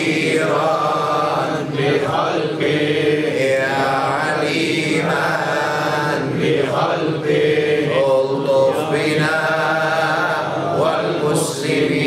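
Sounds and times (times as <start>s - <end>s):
man chanting a litany: 0.0s - 12.0s.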